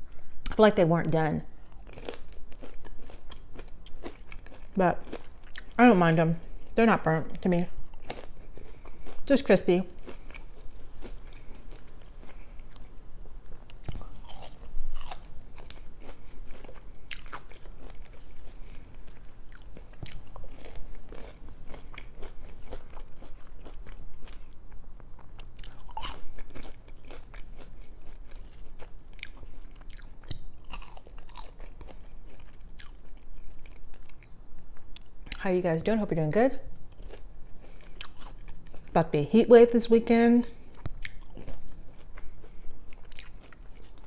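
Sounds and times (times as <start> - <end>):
fries being crunched and chewed: 1.6 - 5.8, 7.9 - 35.4, 36.9 - 39.0, 40.7 - 44.0.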